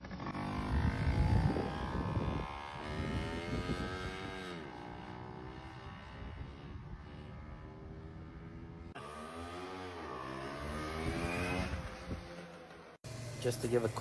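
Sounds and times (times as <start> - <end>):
two-stroke minibike engine revving: 0.0 - 14.0.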